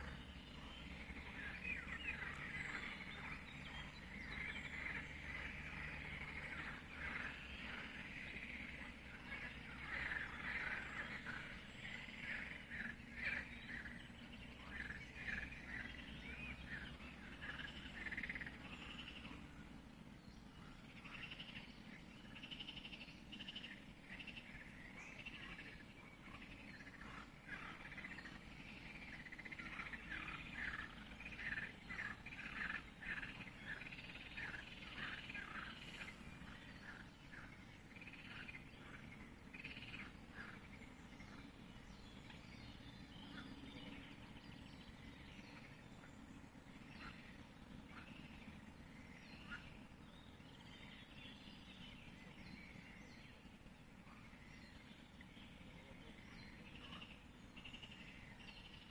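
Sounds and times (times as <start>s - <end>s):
birds chirping and warbling: 0.0s - 58.9s
low background hum: 0.0s - 58.9s.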